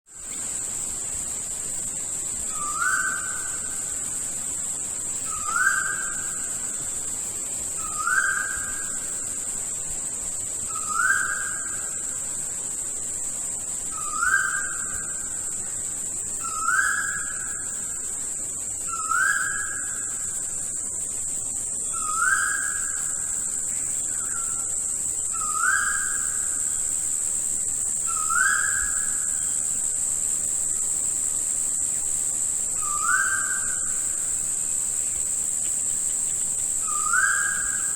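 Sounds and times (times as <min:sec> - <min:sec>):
high-pitched insect drone: 0:00.0 - 0:37.9.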